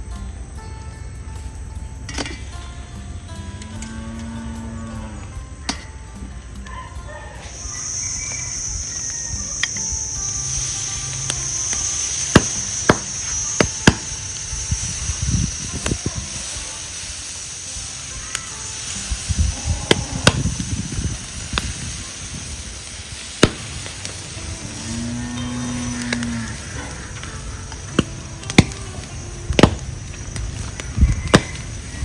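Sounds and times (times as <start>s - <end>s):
fat popping and crackling on coals: 0.0s - 32.0s.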